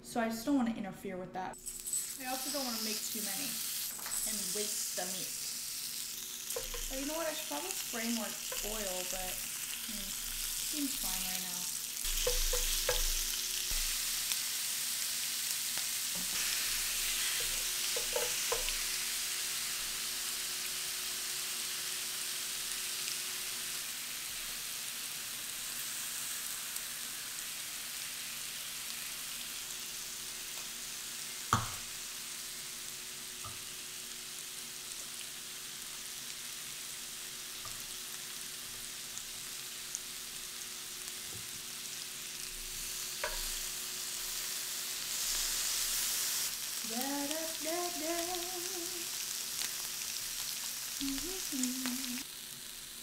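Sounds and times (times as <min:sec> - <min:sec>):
meat sizzling on grill pan: 0:01.6 - 0:53.0.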